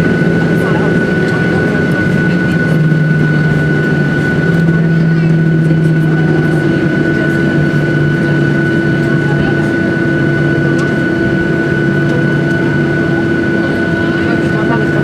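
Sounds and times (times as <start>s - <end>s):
jet engine drone in cabin: 0.0s - 15.0s
steady high whine: 0.0s - 15.0s.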